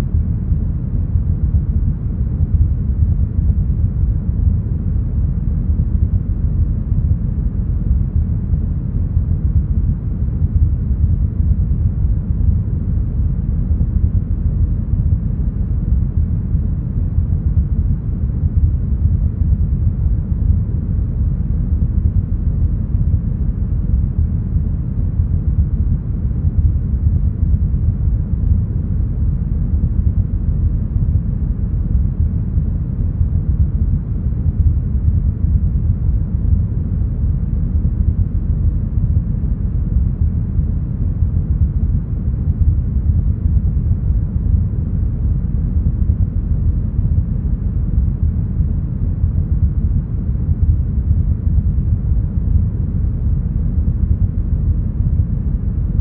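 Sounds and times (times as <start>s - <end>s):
brown noise rumble: 0.0s - 56.0s.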